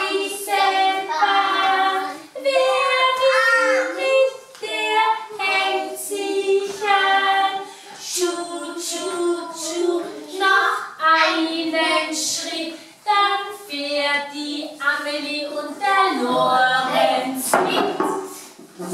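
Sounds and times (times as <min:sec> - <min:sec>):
children and woman singing: 0:00.0 - 0:18.4.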